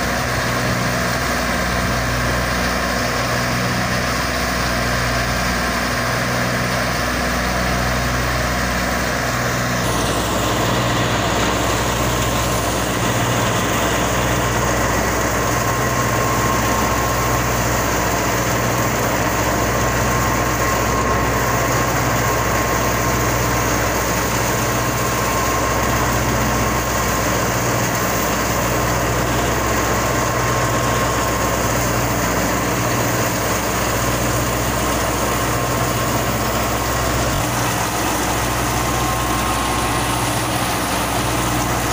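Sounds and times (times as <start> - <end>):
diesel tractor engine running: 0.0 - 41.9
thresher whirring: 0.0 - 41.9.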